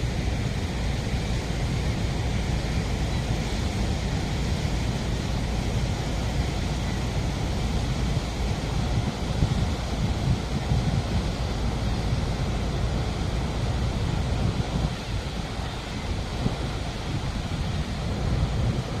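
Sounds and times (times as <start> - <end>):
waterfall roaring: 0.0 - 19.0
wind buffeting microphone: 0.0 - 19.0.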